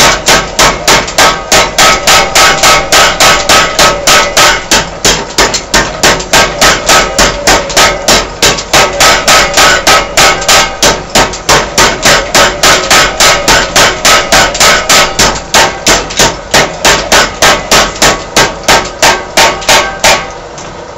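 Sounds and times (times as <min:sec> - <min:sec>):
power hammer pounding steel: 0:00.0 - 0:20.5.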